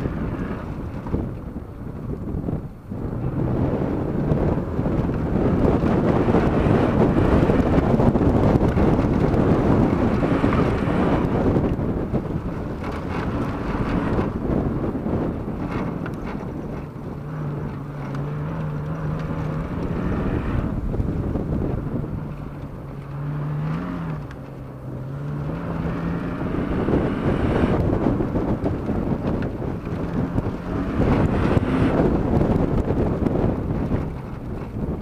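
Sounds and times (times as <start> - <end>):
car engine revving: 0.0 - 35.0
tyre and dirt noise: 0.0 - 35.0
wind buffeting microphone: 0.0 - 35.0.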